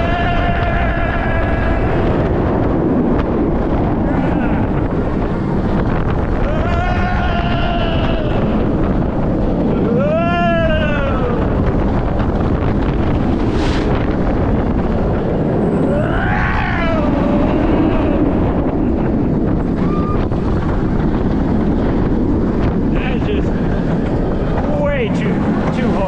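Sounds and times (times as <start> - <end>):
roller coaster train on track: 0.0 - 26.0
wind rushing over microphone: 0.0 - 26.0.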